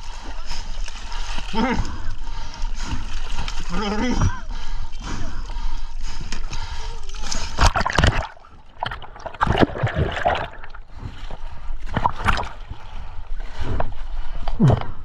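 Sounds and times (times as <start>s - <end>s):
seawater splashing and gurgling: 0.0s - 14.4s.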